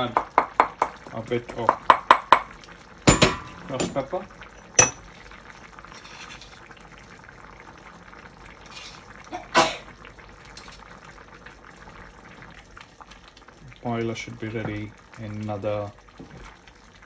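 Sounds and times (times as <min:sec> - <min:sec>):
pan simmering with soft bubbling: 0:00.0 - 0:17.0.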